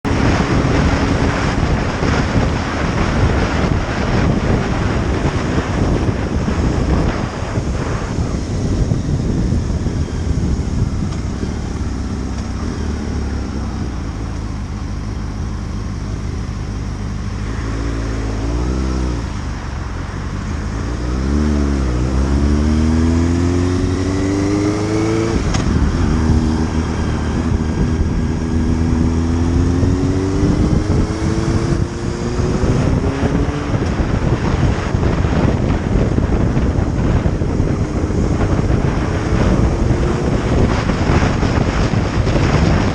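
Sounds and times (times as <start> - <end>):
motorcycle engine accelerating: 0.0 - 42.9
wind noise on microphone: 0.0 - 42.9.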